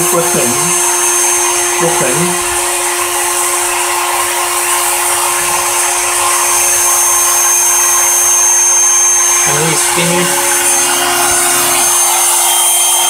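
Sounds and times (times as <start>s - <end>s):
mill spindle high whine: 0.0s - 13.0s.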